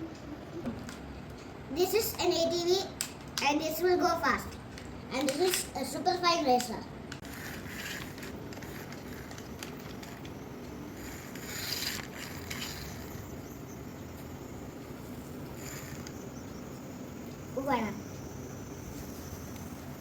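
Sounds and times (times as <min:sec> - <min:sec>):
toy car motor whirring: 0:01.9 - 0:20.0.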